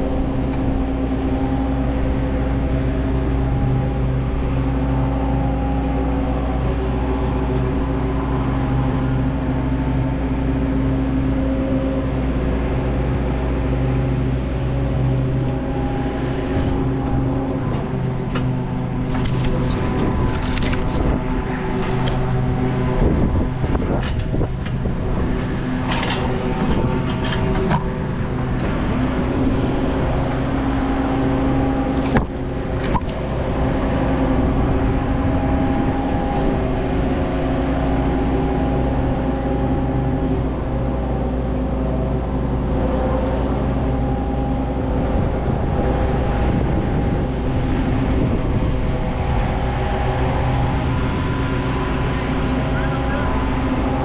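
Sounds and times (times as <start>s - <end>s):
machine engine running: 0.0s - 54.0s.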